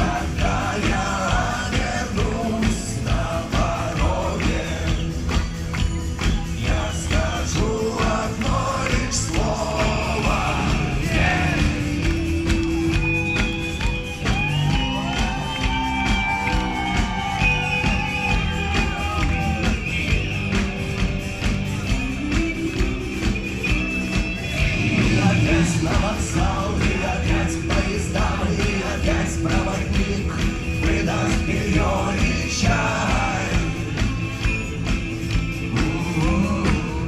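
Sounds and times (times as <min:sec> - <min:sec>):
live rock band playing: 0:00.0 - 0:37.0
steady drum beat: 0:00.0 - 0:37.0.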